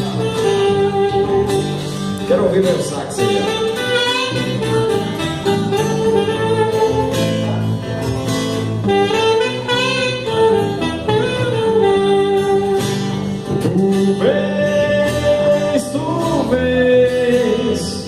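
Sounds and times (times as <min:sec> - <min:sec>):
acoustic guitar strumming chords: 0:00.0 - 0:18.0
saxophone melody: 0:00.0 - 0:18.0.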